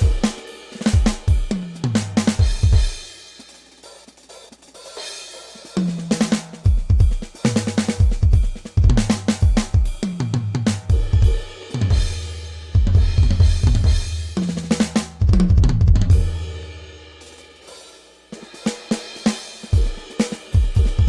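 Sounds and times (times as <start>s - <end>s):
drum kit playing: 0.0s - 21.0s.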